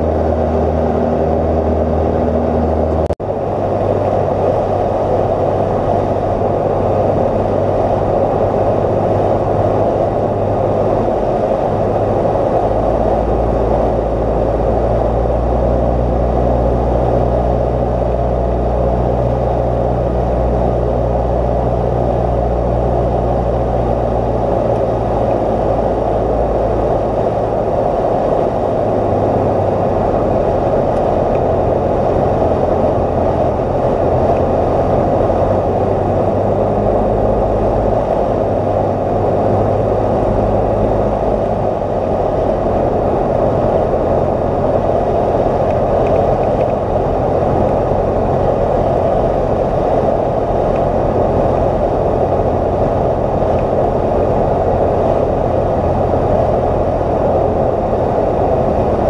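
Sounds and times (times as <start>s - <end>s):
propeller plane engine droning: 0.0s - 59.0s
rushing airflow: 0.0s - 59.0s.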